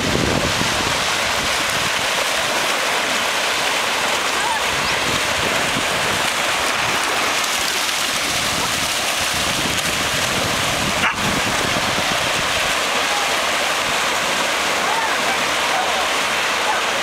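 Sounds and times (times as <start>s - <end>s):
small waves washing onto sand: 0.0s - 17.0s
wind: 0.0s - 17.0s.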